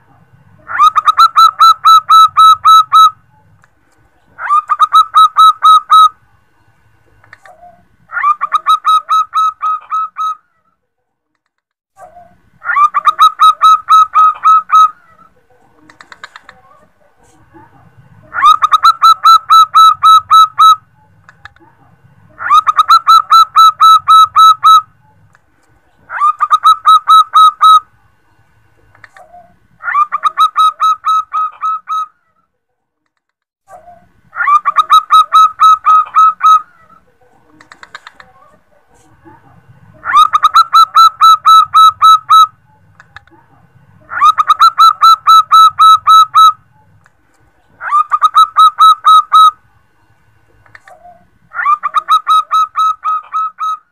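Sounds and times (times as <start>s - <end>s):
dove calling: 0.0s - 3.6s, 4.2s - 6.2s, 7.1s - 10.5s, 12.0s - 21.6s, 22.3s - 25.3s, 25.9s - 27.9s, 28.9s - 32.2s, 33.8s - 39.3s, 39.9s - 43.3s, 44.0s - 47.0s, 47.6s - 49.7s, 50.6s - 53.9s.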